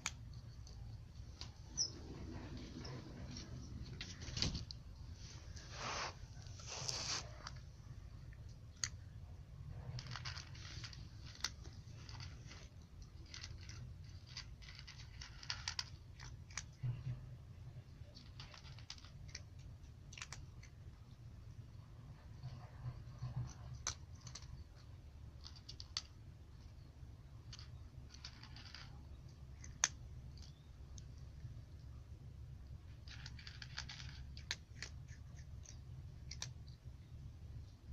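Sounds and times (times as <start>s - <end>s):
faint low hum: 0.0s - 37.9s
cat crunching dry kibble: 5.7s - 37.1s.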